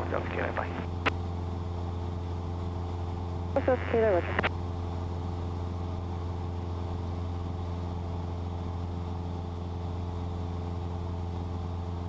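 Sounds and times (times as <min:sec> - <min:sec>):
airplane engine droning in cabin: 0:00.0 - 0:12.0.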